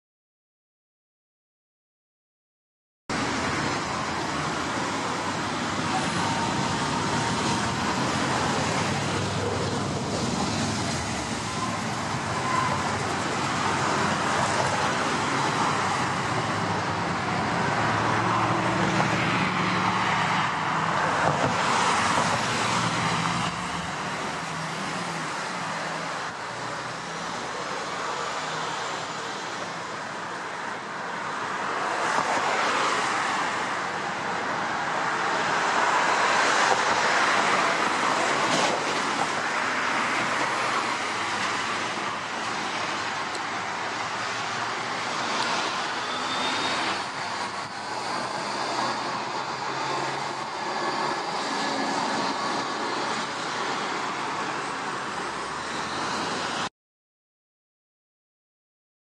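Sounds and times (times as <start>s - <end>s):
bus engine humming: 3.1s - 31.6s, 36.7s - 56.6s
tram rolling on track: 3.1s - 56.6s
cars passing: 3.1s - 56.7s.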